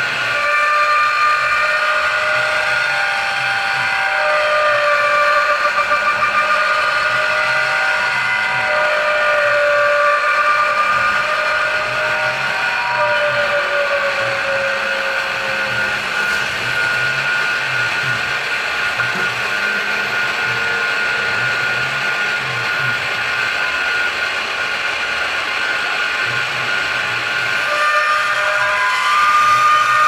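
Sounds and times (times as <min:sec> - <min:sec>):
milling machine spindle whine: 0:00.0 - 0:30.0.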